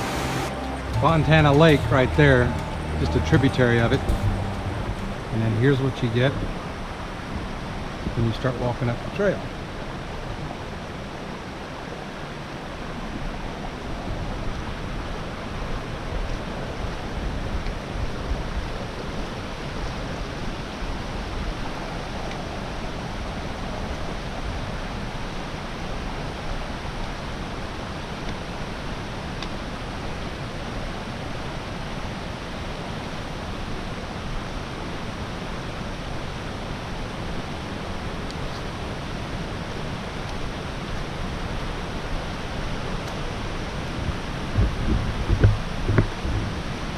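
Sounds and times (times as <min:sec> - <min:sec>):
mountain creek rushing: 0:00.0 - 0:46.9.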